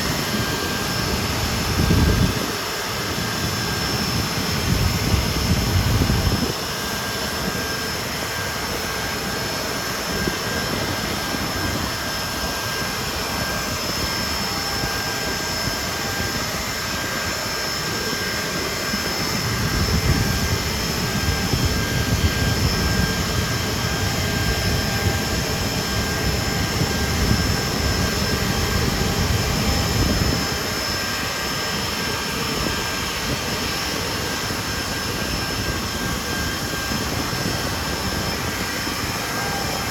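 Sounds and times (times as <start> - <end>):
jet engines high-pitched whine: 0.0 - 39.9.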